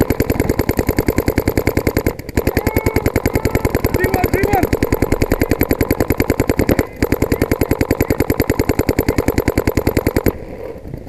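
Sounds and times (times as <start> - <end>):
paintball marker rapid firing: 0.0 - 10.5.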